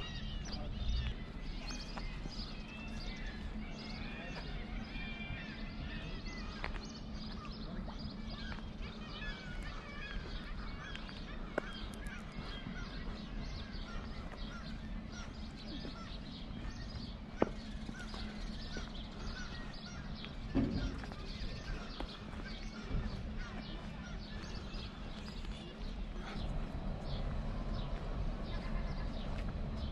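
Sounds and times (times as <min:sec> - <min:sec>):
low steady hum: 0:00.0 - 0:29.9
seabirds squawking: 0:00.0 - 0:29.9.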